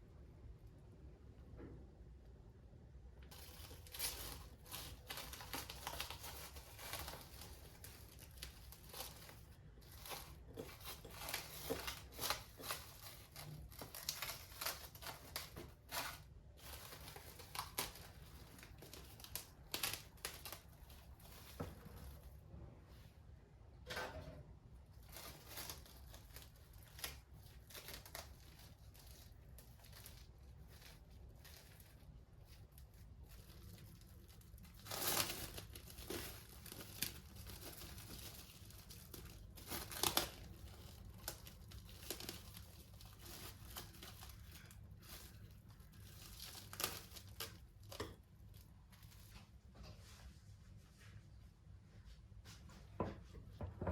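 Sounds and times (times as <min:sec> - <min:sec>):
bag crinkling and rustling: 0:03.3 - 0:22.4, 0:24.8 - 0:49.6.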